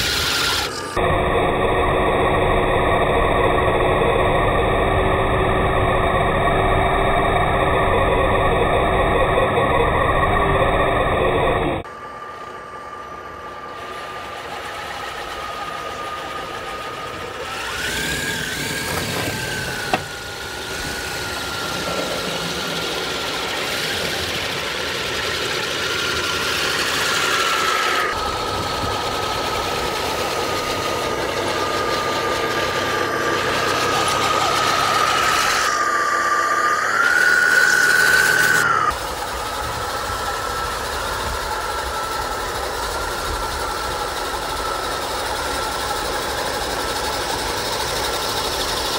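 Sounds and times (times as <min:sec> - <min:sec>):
hiss of snow and tracks: 0:00.0 - 0:08.6, 0:12.0 - 0:48.9
electric motor whine: 0:00.0 - 0:48.9.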